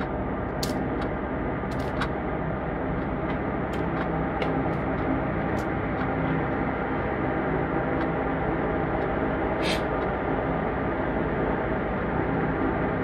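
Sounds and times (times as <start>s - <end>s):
electric fan whirring: 0.0s - 13.0s.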